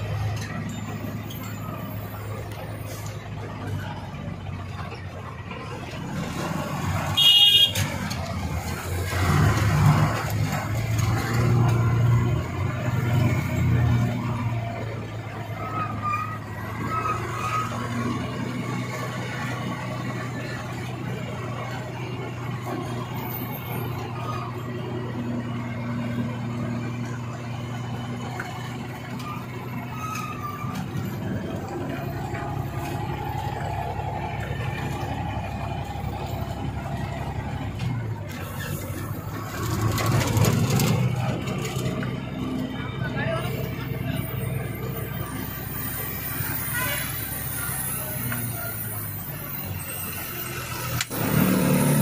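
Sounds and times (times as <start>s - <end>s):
truck engine running: 0.0s - 52.0s.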